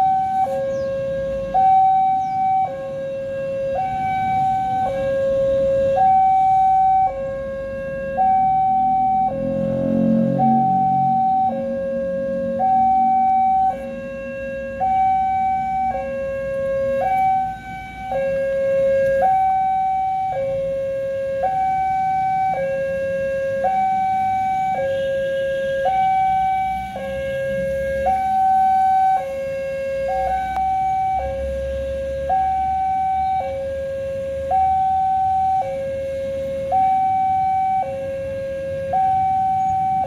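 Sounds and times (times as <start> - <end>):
level crossing two-tone alarm: 0.0 - 2.8, 3.7 - 31.5, 32.2 - 36.0, 36.6 - 40.0.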